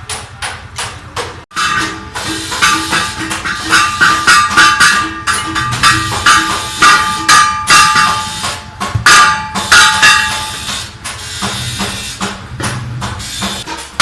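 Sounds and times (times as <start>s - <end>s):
hammer blows on metal: 1.5s - 14.0s.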